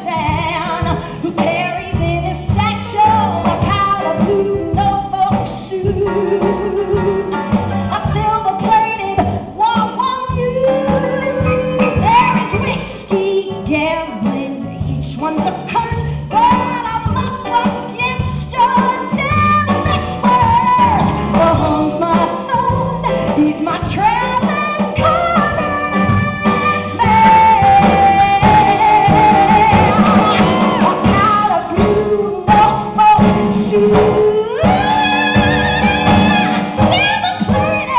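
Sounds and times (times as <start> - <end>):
instrumental accompaniment: 0.0 - 37.9
woman belting a show tune: 0.0 - 37.9.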